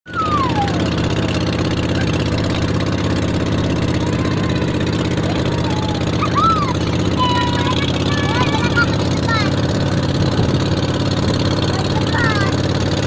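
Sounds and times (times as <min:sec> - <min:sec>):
boat engine pulsing: 0:00.0 - 0:13.0.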